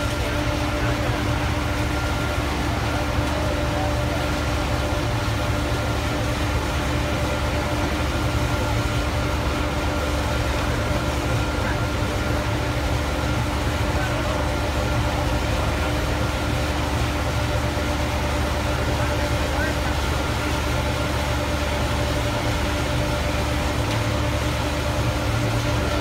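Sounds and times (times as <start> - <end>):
blower hum: 0.0 - 26.0.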